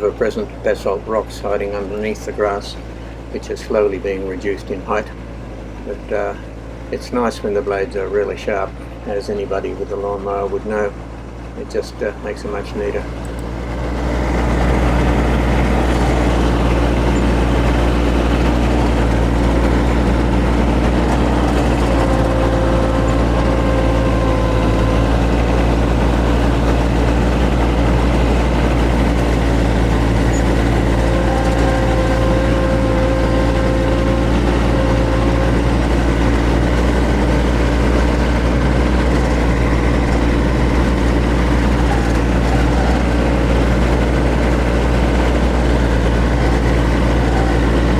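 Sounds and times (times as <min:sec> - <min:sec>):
ride-on mower engine running: 0:00.0 - 0:47.9.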